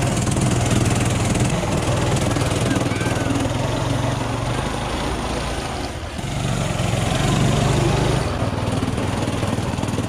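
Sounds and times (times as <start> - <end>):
small snowmobile engine running: 0.0 - 10.0.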